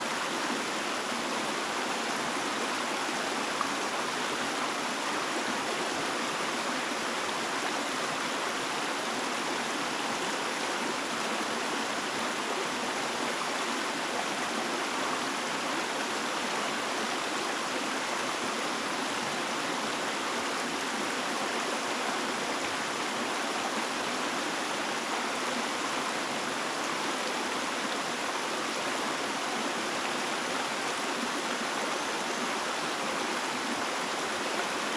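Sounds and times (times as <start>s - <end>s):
running water rushing: 0.0s - 34.9s.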